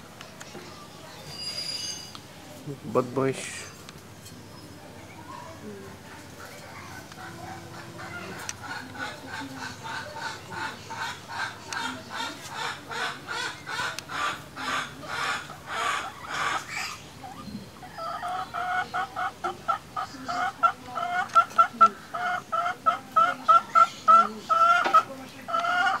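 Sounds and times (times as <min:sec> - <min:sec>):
bird clucking calls: 0:02.9 - 0:26.0.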